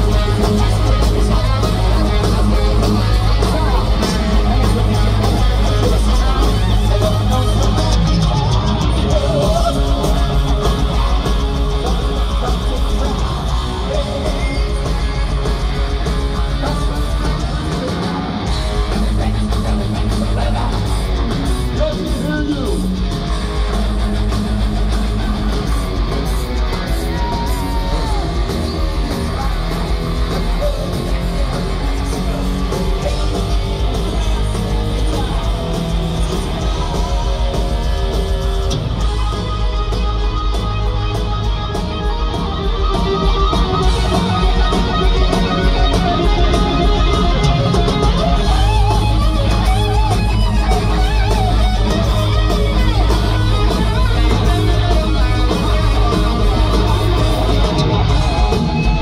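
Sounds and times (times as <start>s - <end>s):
heavy metal band playing loud: 0.0s - 59.0s.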